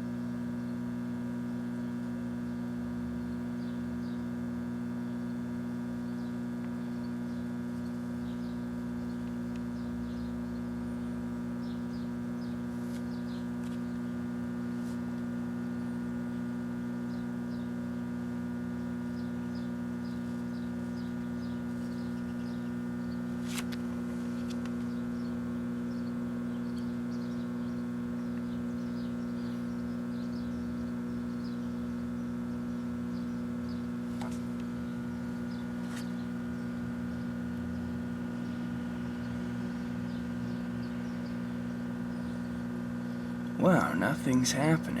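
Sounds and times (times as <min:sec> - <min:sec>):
microwave oven humming: 0:00.0 - 0:45.0.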